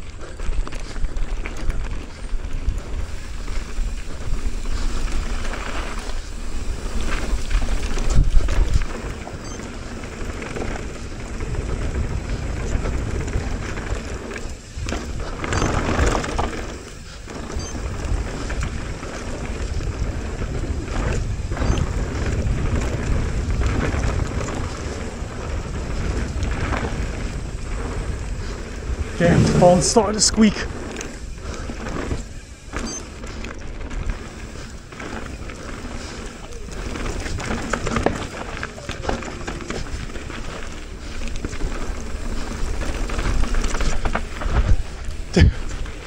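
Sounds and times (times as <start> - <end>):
bike tyres rattling on dirt: 0.0 - 46.0
wind noise on microphone: 0.0 - 46.0.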